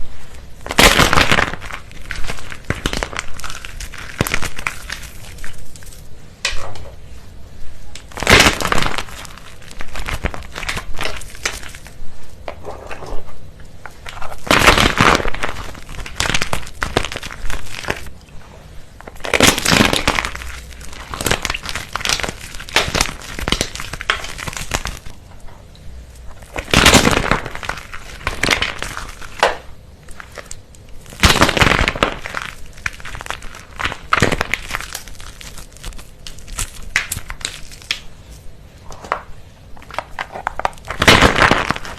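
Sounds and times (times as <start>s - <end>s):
brittle material crackling and crunching: 0.2s - 6.1s, 7.9s - 18.2s, 19.0s - 25.5s, 26.1s - 41.9s.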